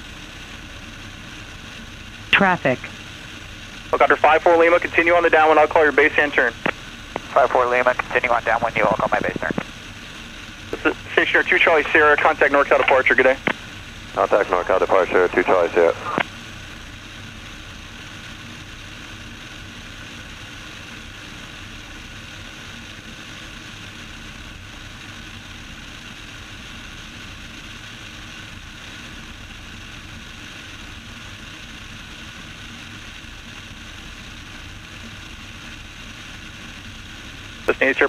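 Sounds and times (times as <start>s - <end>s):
airflow in flight: 0.0s - 38.0s
airplane engine drone: 0.0s - 38.0s.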